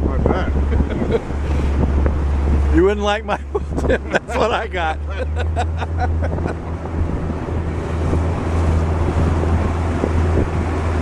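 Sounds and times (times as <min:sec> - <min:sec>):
outboard motor droning: 0:00.0 - 0:11.0
water rushing past hull: 0:00.0 - 0:11.0
wind buffeting microphone: 0:00.0 - 0:11.0.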